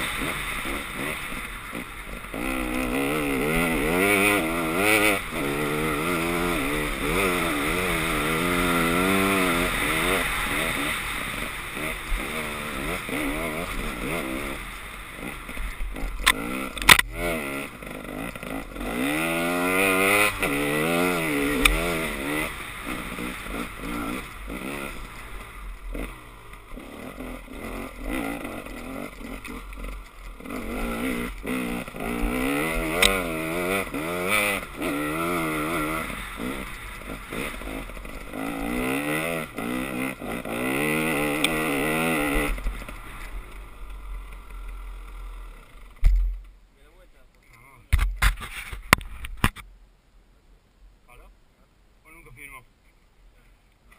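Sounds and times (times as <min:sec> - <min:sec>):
dirt bike engine revving: 0:00.0 - 0:46.1.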